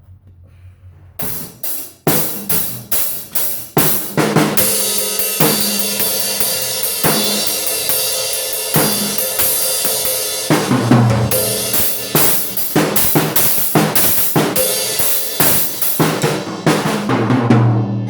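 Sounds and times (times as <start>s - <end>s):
crash cymbal and hi-hat: 1.2s - 17.1s
drum kit beat: 1.2s - 18.0s.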